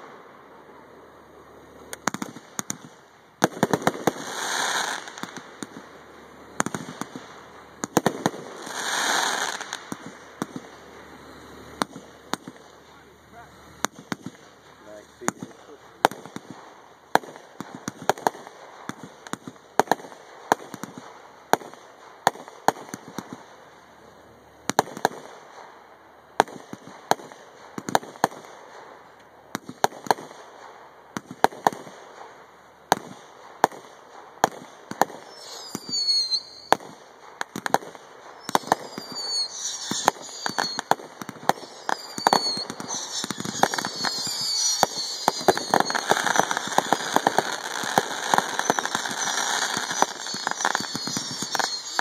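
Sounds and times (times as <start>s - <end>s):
firework bangs: 0.0s - 52.0s
firework crackling: 0.0s - 52.0s
falling firework whistles: 0.8s - 23.6s, 26.4s - 52.0s.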